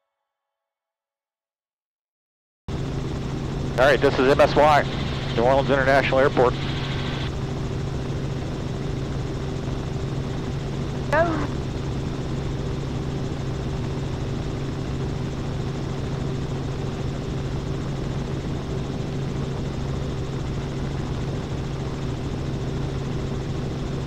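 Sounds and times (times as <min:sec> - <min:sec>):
helicopter cabin drone: 0:02.7 - 0:24.0.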